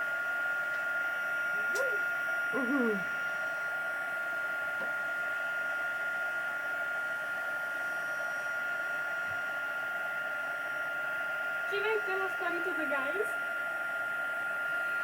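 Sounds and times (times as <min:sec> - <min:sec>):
heat gun high whine: 0:00.0 - 0:15.0.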